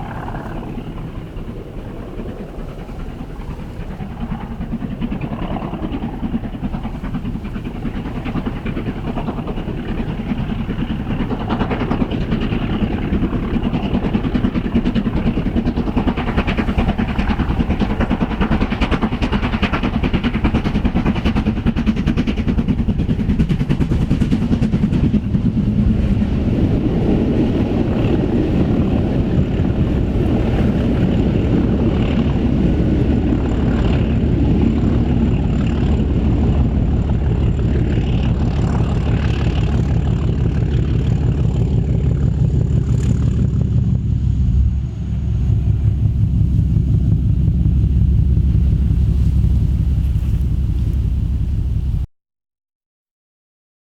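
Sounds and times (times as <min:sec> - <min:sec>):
train rolling by: 0:00.0 - 0:52.1.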